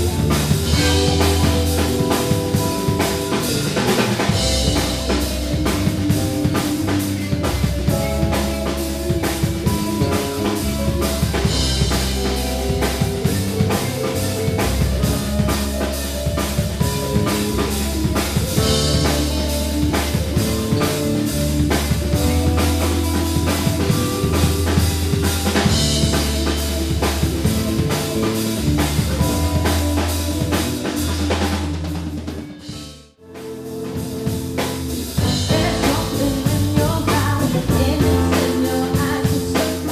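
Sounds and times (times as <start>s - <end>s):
live band playing instrumental: 0.0s - 39.9s.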